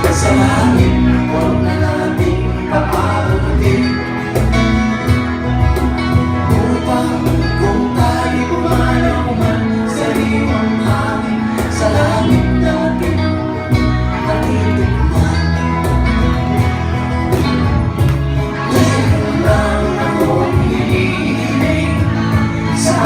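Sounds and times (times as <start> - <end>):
acoustic band playing: 0.0 - 23.0
person singing: 0.0 - 23.0.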